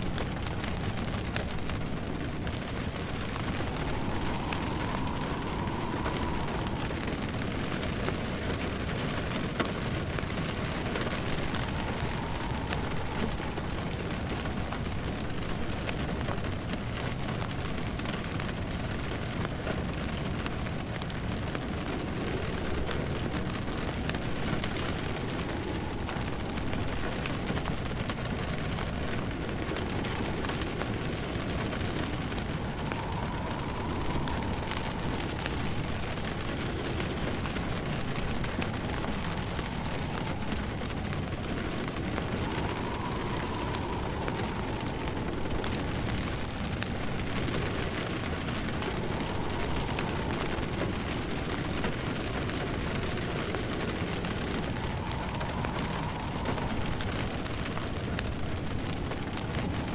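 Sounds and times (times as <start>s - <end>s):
faint wind howl: 0.0s - 59.9s
steady rain: 0.0s - 59.9s
wood fire crackling: 0.0s - 59.9s.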